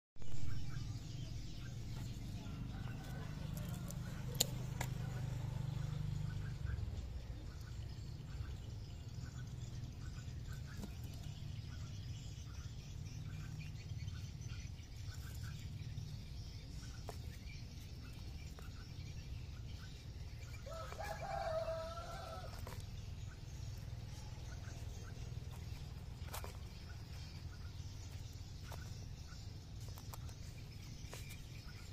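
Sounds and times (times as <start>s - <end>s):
low background rumble: 0.4s - 31.9s.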